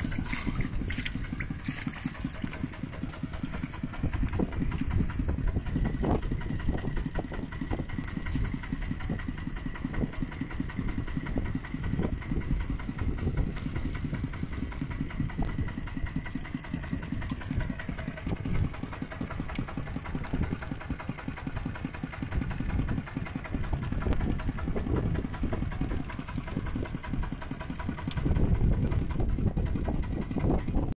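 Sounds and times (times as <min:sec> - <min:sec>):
tractor engine chugging: 0:00.0 - 0:30.9.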